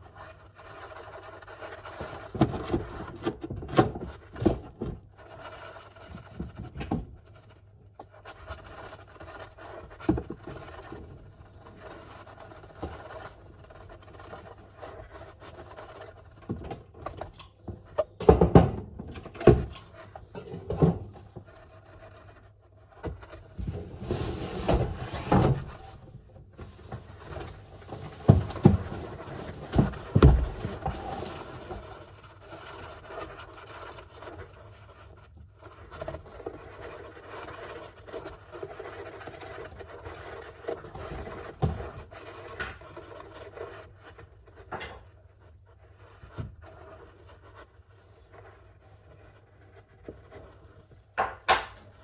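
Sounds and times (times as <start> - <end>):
hamster scratching in cage: 0.0 - 51.2.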